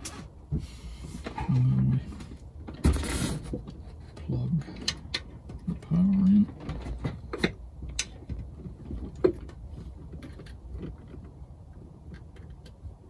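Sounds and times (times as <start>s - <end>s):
low steady rumble: 0.0s - 13.0s
cable clicks and knocks: 1.6s - 13.0s.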